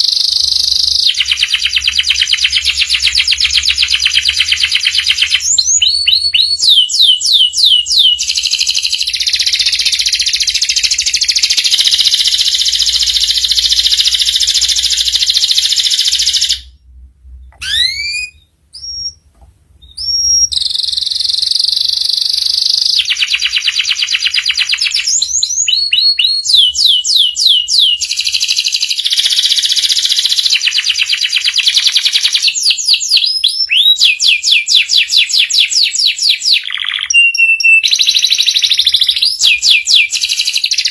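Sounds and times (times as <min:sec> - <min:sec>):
canary singing: 0:00.0 - 0:16.8, 0:17.4 - 0:40.9.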